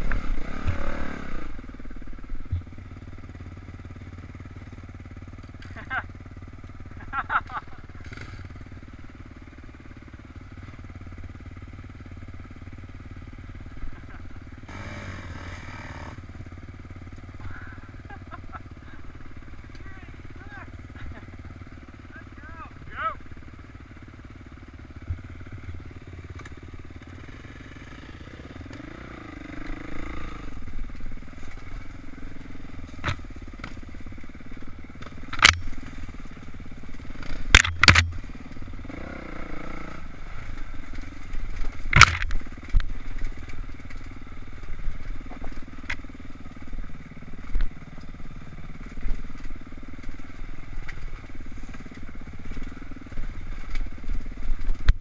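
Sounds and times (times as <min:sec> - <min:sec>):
dirt bike engine revving: 0:00.0 - 0:54.8.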